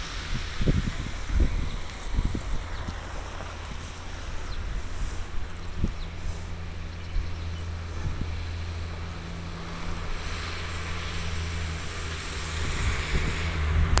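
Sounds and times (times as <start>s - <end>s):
hiss of noise: 0.0s - 14.0s
low engine hum: 0.0s - 14.0s.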